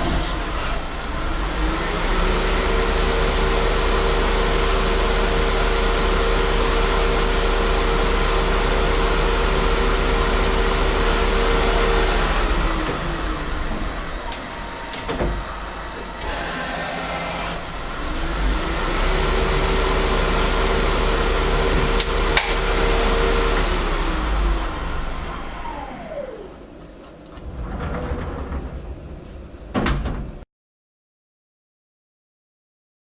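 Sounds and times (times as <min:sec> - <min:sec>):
lathe cutting and spindle whine: 0:00.0 - 0:27.1.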